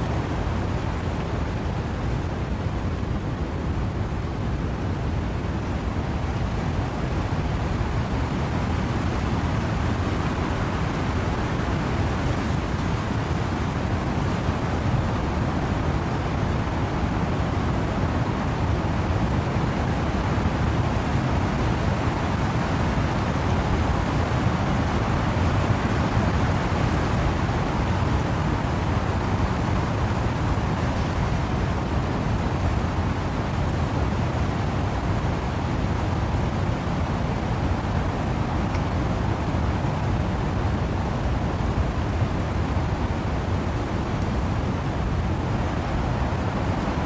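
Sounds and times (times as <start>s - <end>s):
wind rushing through trees: 0.0s - 47.0s.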